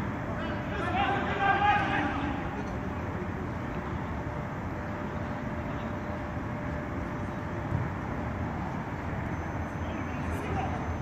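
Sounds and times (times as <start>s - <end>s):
faint steady hum: 0.0s - 11.0s
outdoor background noise: 0.0s - 11.0s.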